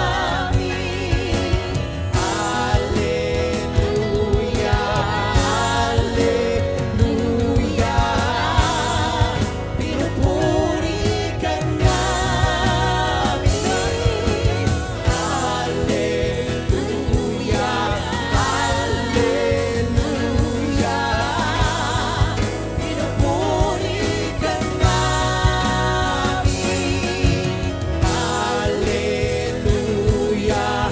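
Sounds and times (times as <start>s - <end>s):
band with drums and bass: 0.0s - 30.9s
people singing with vibrato: 0.0s - 30.9s.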